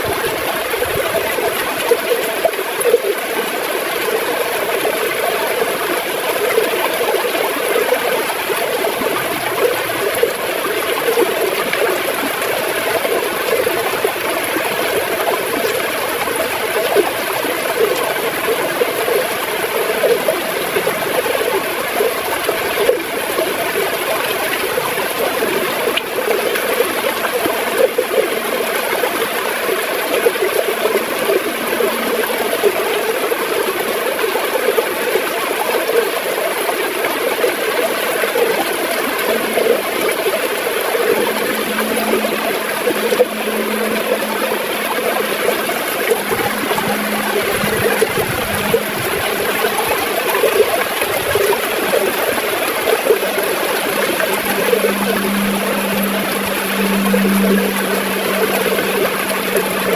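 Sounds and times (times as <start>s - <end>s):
river water gurgling: 0.0s - 59.9s.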